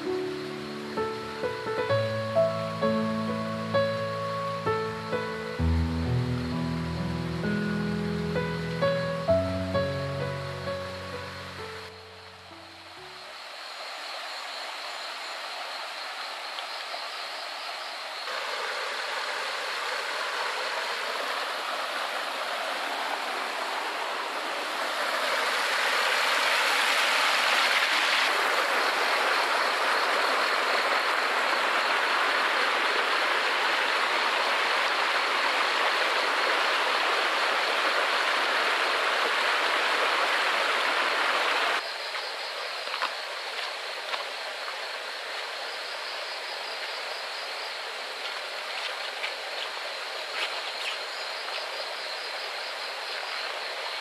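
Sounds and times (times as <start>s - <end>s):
night insects trilling: 0.0s - 27.3s, 28.3s - 54.0s
flowing water rushing: 0.0s - 54.0s.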